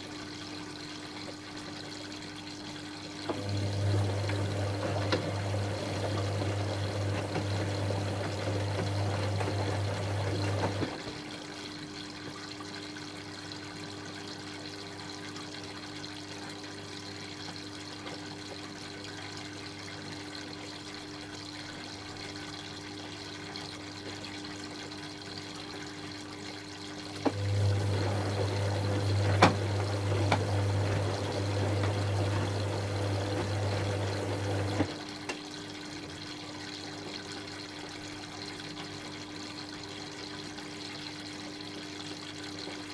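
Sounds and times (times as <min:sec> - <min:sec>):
water rushing in washing machine: 0:00.0 - 0:42.9
water trickling: 0:00.0 - 0:42.9.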